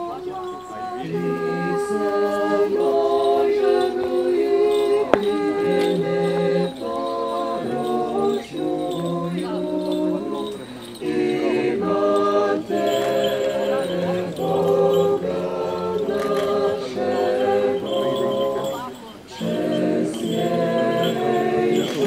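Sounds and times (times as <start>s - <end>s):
choir singing chant: 0.0s - 22.0s.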